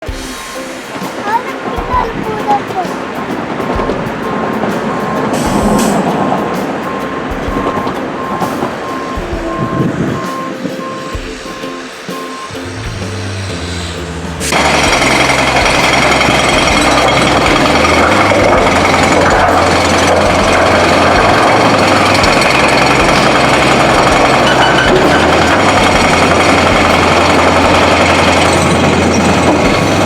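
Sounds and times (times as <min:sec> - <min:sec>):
diesel engine hum: 0:00.0 - 0:30.0
loud mechanical clatter: 0:00.0 - 0:30.0.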